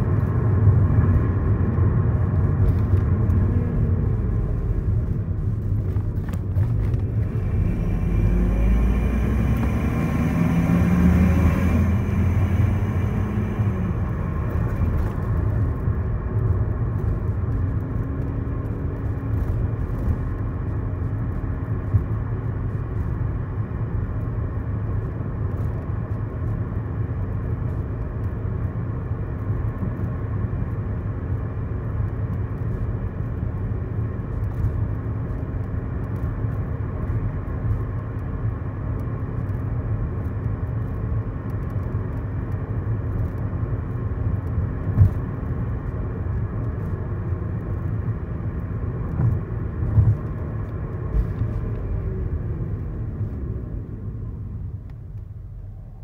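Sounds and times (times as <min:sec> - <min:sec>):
car engine cruising: 0:00.0 - 0:56.0.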